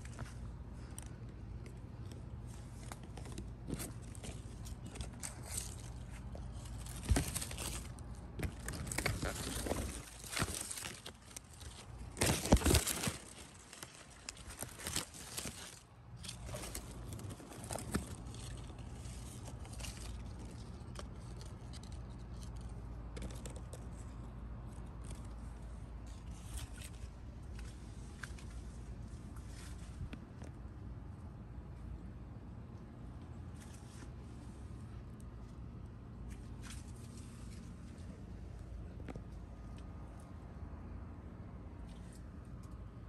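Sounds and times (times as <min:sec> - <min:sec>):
leaves rustling against phone: 0:00.0 - 0:32.0, 0:32.6 - 0:43.0
low background noise: 0:00.0 - 0:43.0.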